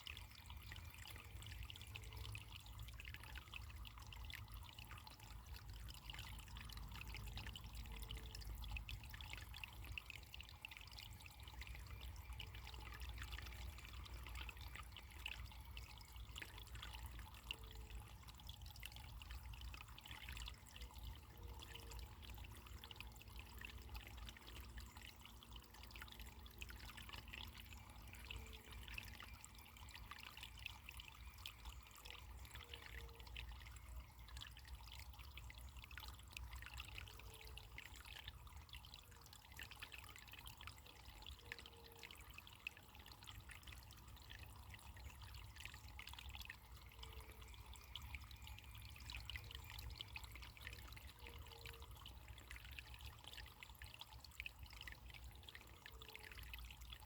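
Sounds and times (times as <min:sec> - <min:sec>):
water trickling and splashing: 0:00.0 - 0:57.0.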